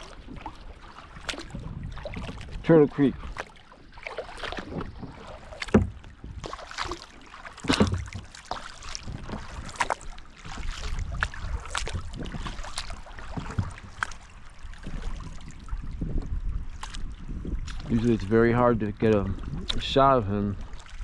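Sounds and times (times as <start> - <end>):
paddle splashing in water: 0.0 - 21.0.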